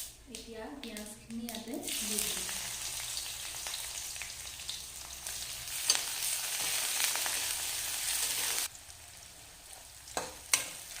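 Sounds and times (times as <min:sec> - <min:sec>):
onions sizzling in hot oil: 0:01.5 - 0:11.0.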